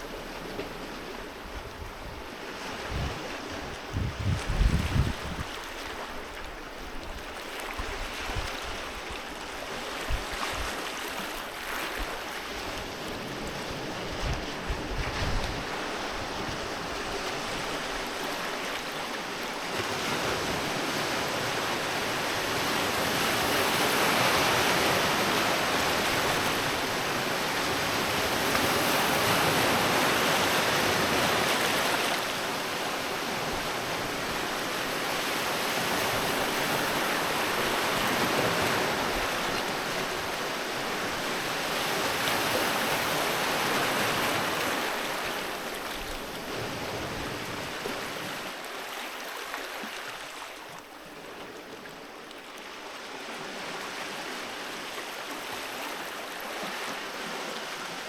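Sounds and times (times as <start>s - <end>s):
sea waves washing onto beach: 0.0s - 58.0s.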